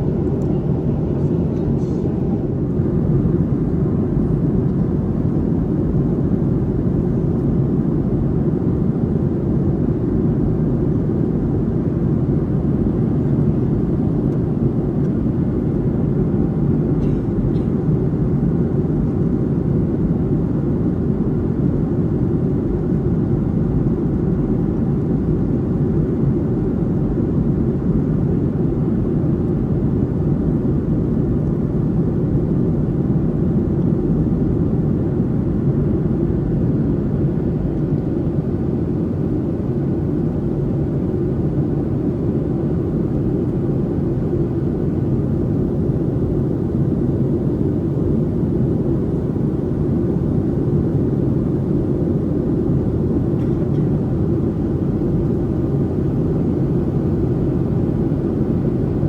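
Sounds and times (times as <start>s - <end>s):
airplane cabin rumble: 0.0s - 9.1s, 10.8s - 59.0s.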